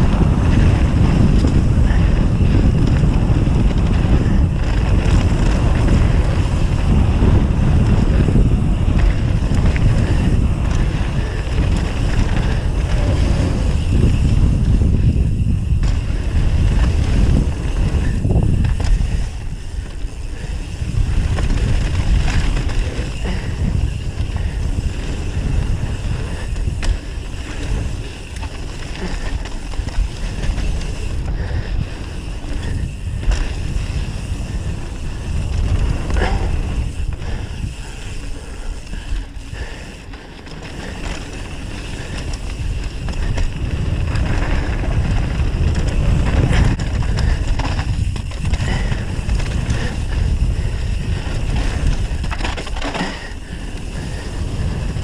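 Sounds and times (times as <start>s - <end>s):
bike knocks and rattles: 0.0s - 55.0s
tyres rumbling on dirt: 0.0s - 55.0s
wind buffeting microphone: 0.0s - 55.0s.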